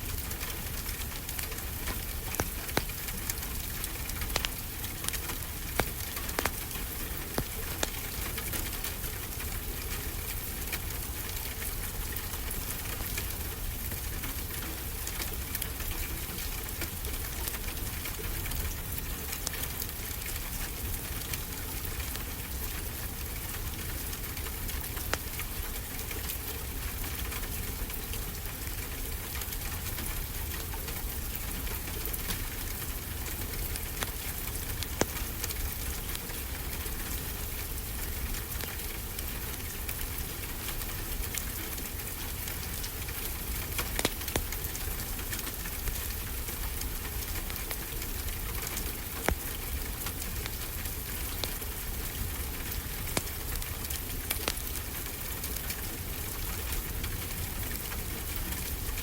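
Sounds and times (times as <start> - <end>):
fireplace crackling and popping: 0.0 - 59.0.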